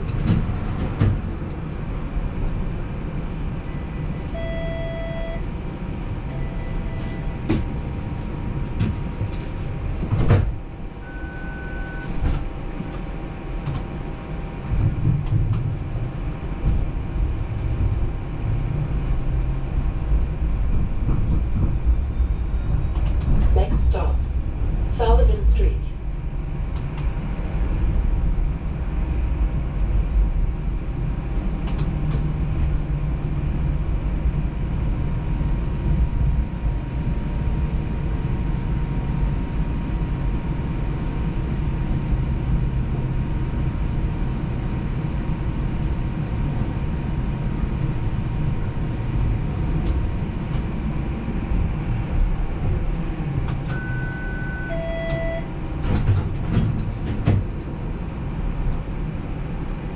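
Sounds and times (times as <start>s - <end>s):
streetcar rumble and whine: 0.0s - 59.9s.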